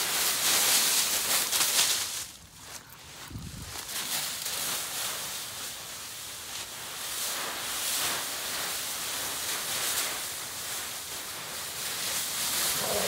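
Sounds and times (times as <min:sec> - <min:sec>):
dry leaves rustling and crunching: 0:00.0 - 0:13.0.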